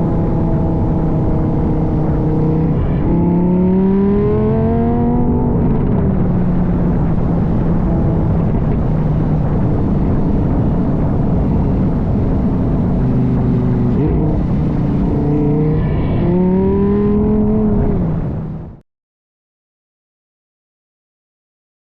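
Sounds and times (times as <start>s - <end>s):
car engine accelerating: 0.0s - 18.8s.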